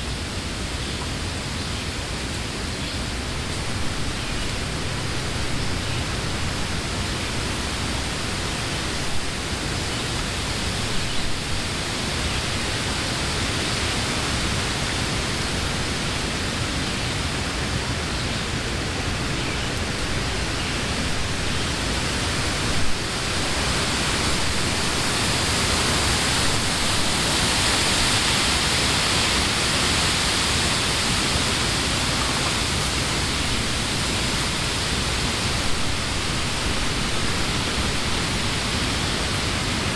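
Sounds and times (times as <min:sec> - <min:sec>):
wind blowing through leaves: 0:00.0 - 0:39.9
wind gusts: 0:00.0 - 0:39.9.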